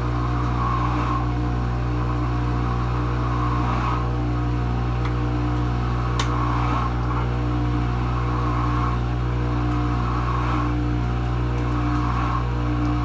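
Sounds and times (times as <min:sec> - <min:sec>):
dishwasher pump motor humming: 0:00.0 - 0:13.0.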